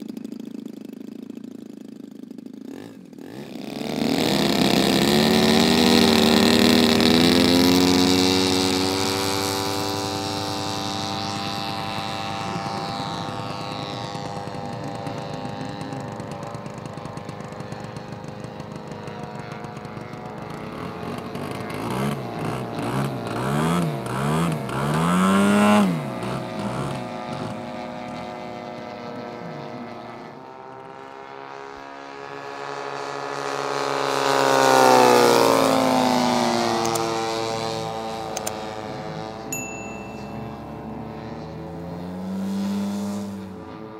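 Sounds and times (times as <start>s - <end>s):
model plane engine flying past: 0.0s - 43.9s.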